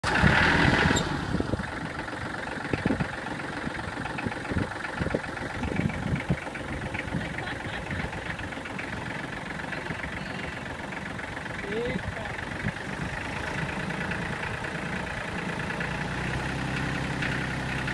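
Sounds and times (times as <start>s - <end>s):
tractor engine idling: 0.0s - 17.9s.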